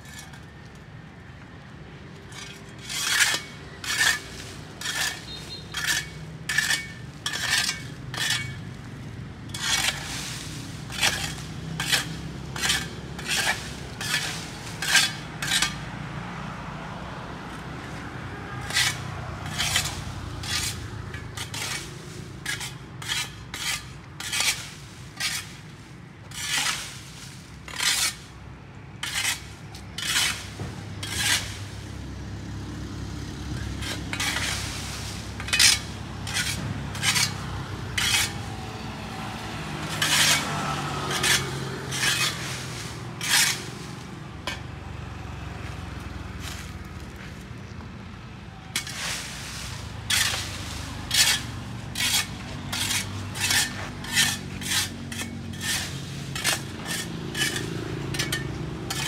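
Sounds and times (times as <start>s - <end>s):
metal tool scraping pavement: 0.0s - 0.9s, 2.2s - 16.0s, 17.8s - 28.4s, 29.0s - 32.0s, 33.5s - 44.8s, 48.6s - 59.0s.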